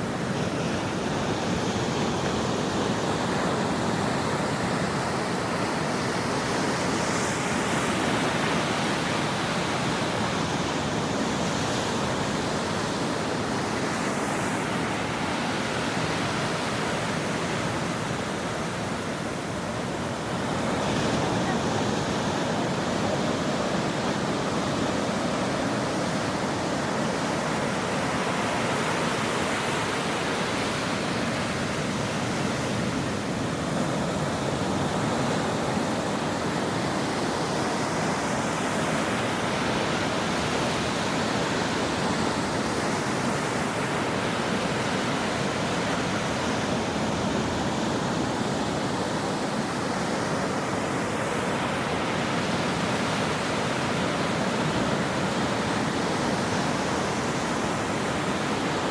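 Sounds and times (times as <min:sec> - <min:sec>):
ocean waves on shore: 0:00.0 - 0:58.9.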